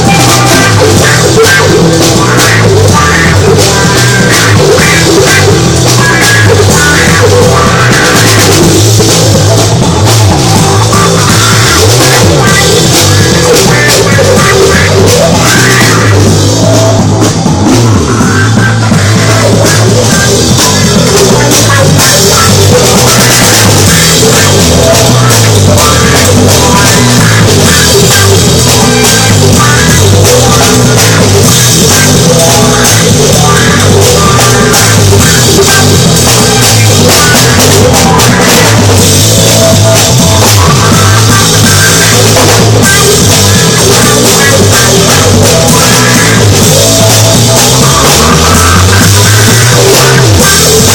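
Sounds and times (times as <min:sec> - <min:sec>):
loud rock music: 0:00.0 - 0:50.9.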